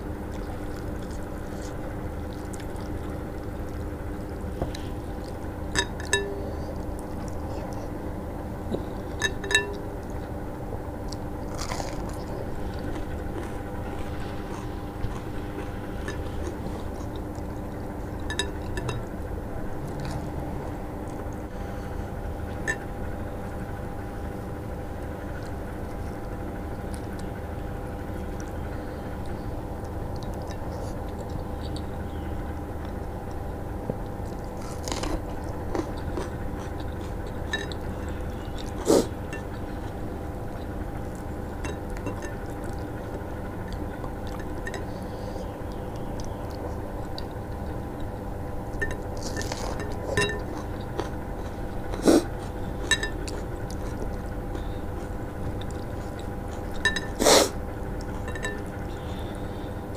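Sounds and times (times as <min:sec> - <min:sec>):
steady hum: 0:00.0 - 0:59.9
chewing: 0:00.1 - 0:59.5.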